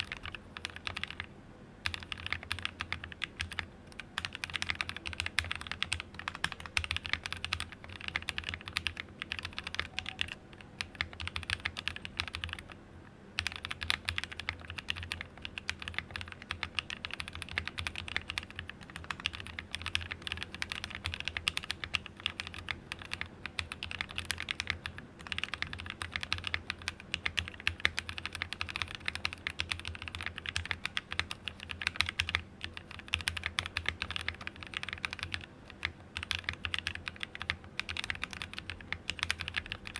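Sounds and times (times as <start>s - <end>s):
fast mechanical keyboard typing: 0.0s - 12.8s, 13.4s - 39.9s.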